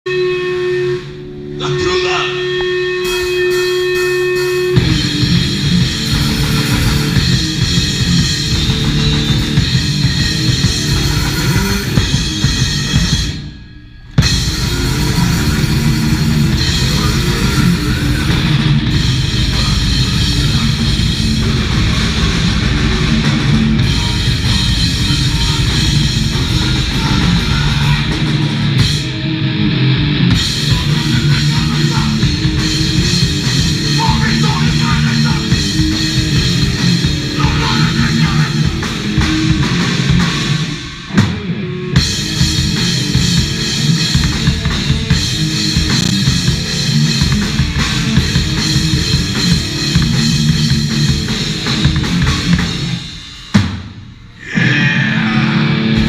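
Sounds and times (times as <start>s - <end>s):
rock band playing live: 0.1s - 56.0s.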